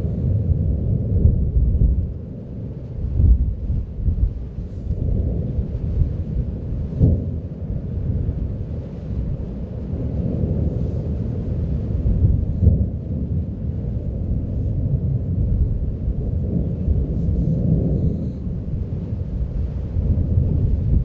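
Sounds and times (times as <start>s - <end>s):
volcano deep rumbling roar: 0.0s - 21.0s.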